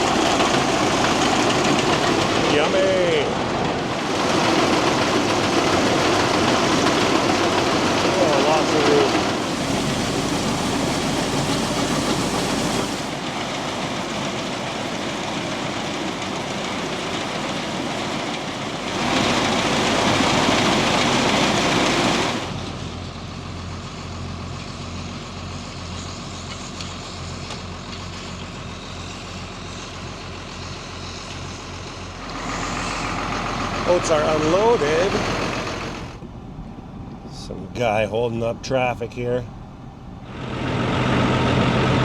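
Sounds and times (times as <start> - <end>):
grain unloading machinery: 0.0 - 36.3, 40.2 - 42.0
truck engine: 0.0 - 42.0.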